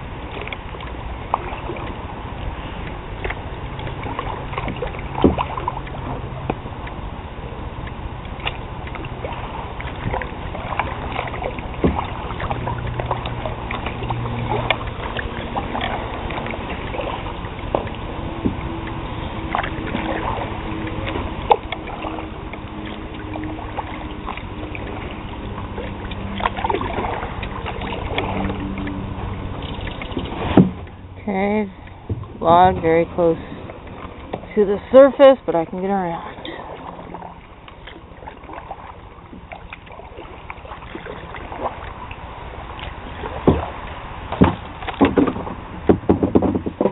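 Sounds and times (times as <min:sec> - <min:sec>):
paddle strokes in water: 0:00.0 - 0:46.9.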